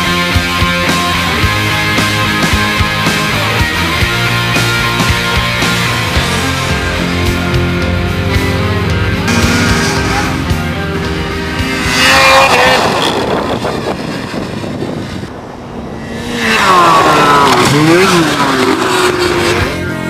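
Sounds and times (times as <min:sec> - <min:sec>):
rock music: 0:00.0 - 0:20.0
snowmobile engine revving: 0:00.0 - 0:20.0.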